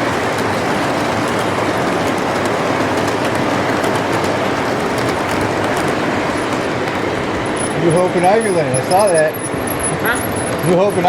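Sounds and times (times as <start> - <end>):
model train wheels rumbling on rails: 0.0 - 11.0.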